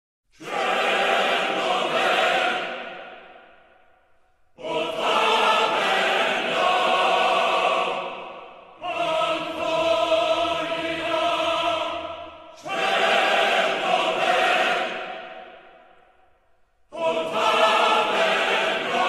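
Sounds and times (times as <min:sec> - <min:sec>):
choir holding chords: 0:00.4 - 0:03.8, 0:04.5 - 0:16.1, 0:16.9 - 0:19.0.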